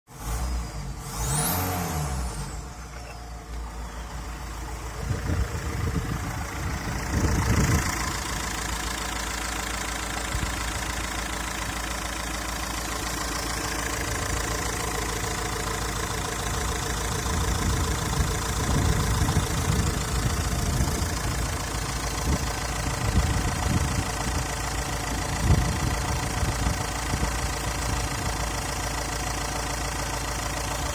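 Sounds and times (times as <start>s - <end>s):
engine idling with surges: 0.1s - 30.9s.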